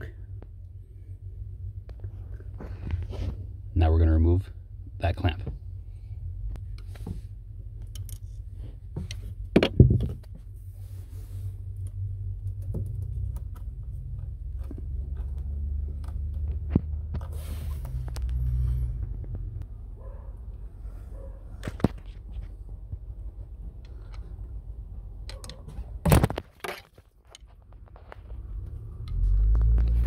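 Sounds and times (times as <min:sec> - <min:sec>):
steady low rumble: 0:00.0 - 0:26.1, 0:27.1 - 0:30.0.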